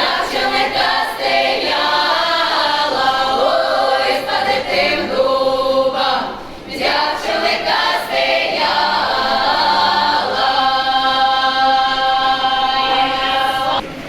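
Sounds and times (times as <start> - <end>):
choir singing: 0.0 - 13.8.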